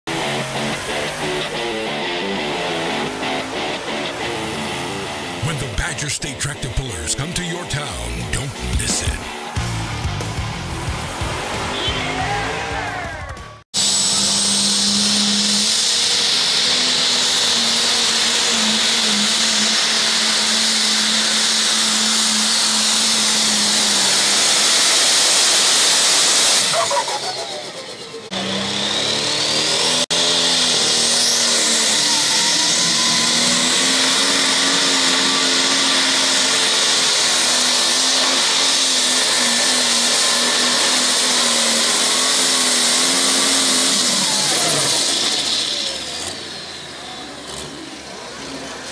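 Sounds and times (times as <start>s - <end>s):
tractor engines under load: 0.0s - 48.9s
falling whine: 0.1s - 48.8s.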